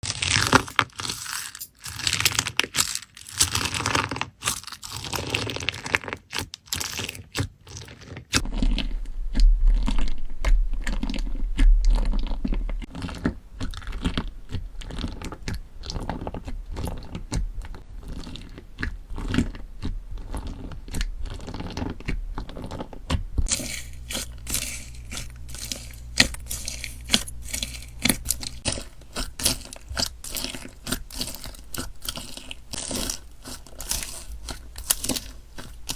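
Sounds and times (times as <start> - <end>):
slime crackling and popping: 0.0 - 35.9.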